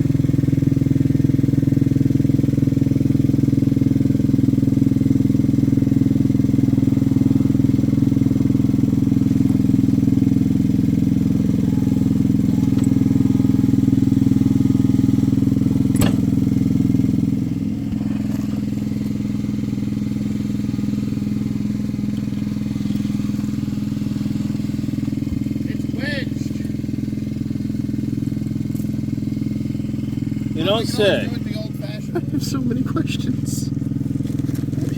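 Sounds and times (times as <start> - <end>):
locomotive engine running: 0.0 - 34.9.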